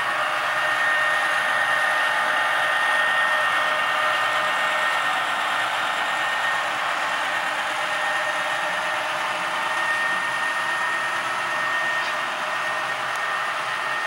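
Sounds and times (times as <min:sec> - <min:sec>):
model train running: 0:00.0 - 0:14.0.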